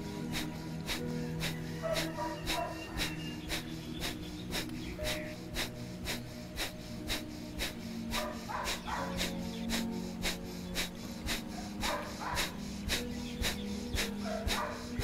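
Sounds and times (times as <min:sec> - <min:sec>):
forceful nasal exhalations: 0:00.0 - 0:15.0.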